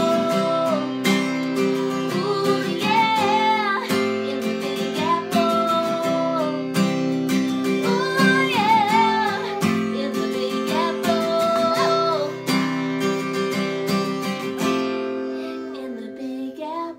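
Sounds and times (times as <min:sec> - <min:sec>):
woman singing: 0:00.0 - 0:12.8, 0:15.1 - 0:16.9
acoustic guitar strumming: 0:00.0 - 0:16.9.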